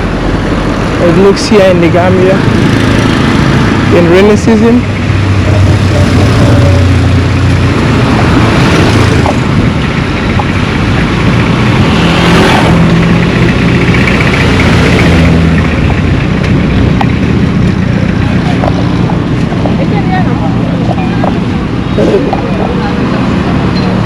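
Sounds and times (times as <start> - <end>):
vehicle engines on a road: 0.0 - 24.0
vehicle passing close by: 0.0 - 24.0.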